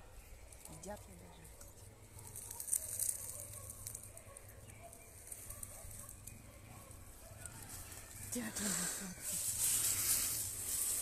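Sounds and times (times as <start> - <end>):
faint birdsong: 0.0 - 11.0
rustle of dry leaves and twigs: 0.2 - 11.0.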